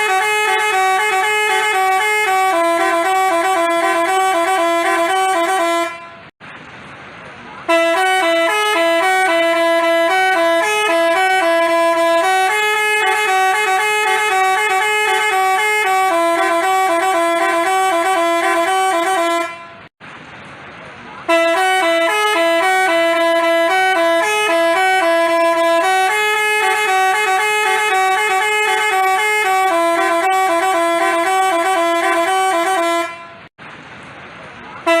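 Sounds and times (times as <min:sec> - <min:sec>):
multi-tone bus horn melody: 0:00.0 - 0:06.4, 0:07.6 - 0:19.9, 0:21.2 - 0:33.5, 0:34.8 - 0:35.0.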